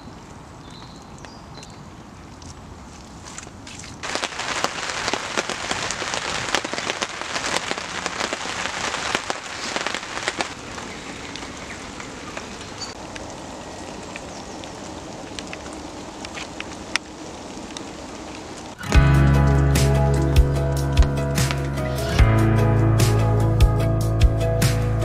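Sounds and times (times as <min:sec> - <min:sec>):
rain pattering on tarpaulin: 0:00.0 - 0:22.0.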